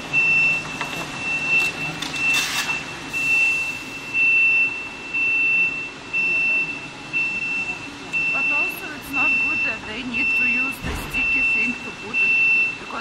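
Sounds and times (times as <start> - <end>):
high-pitched warning buzzer beeps: 1.2 - 13.0.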